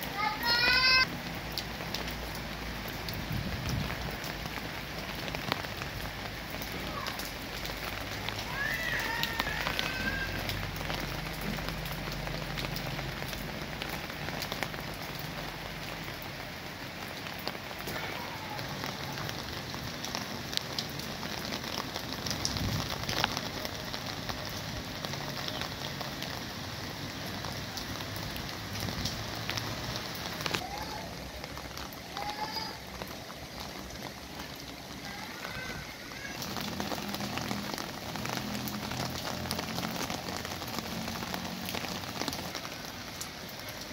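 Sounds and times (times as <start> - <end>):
rain falling on foliage: 0.0 - 43.9.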